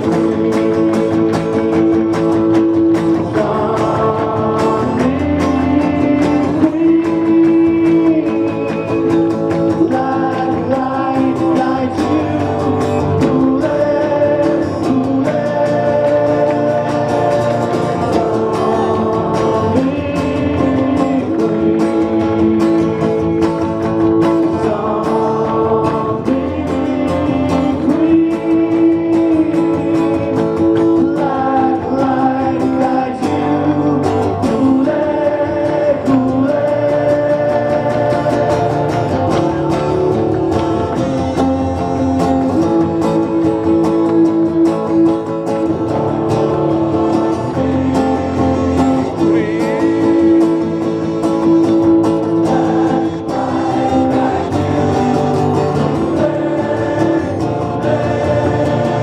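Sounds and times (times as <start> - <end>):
acoustic guitars playing: 0.0 - 59.0
man singing: 0.0 - 59.0.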